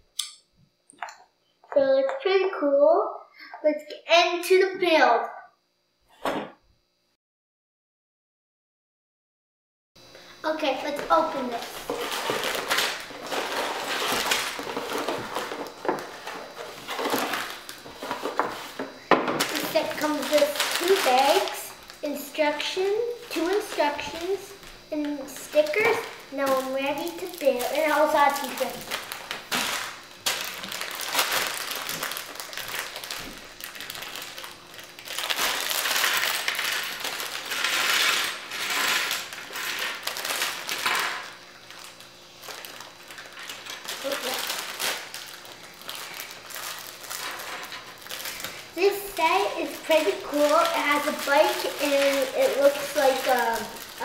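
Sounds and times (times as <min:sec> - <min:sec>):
crinkling plastic bags: 0:10.5 - 0:54.0.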